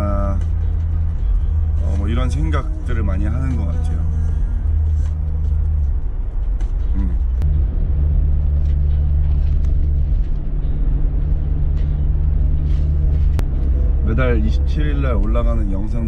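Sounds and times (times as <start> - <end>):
car interior road and engine drone: 0.0 - 16.0.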